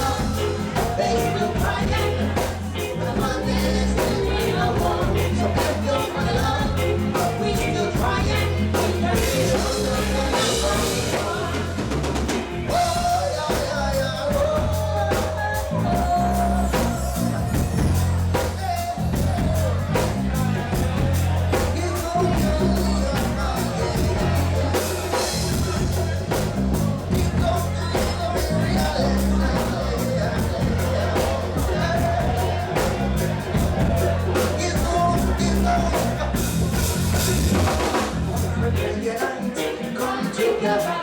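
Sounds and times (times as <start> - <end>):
drum kit: 0.0 - 41.0
reggae band playing: 0.0 - 41.0
repeating bass line: 0.0 - 41.0.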